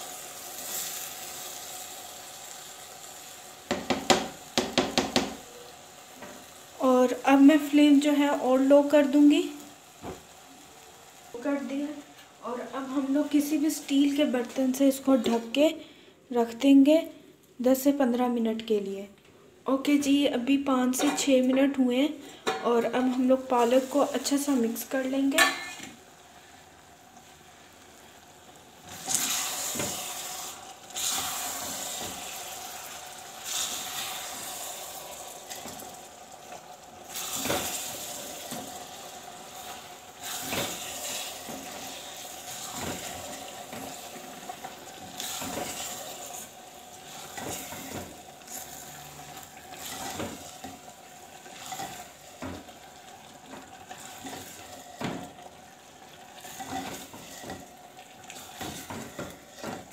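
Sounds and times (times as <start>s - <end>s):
food sizzling: 0.0s - 59.9s.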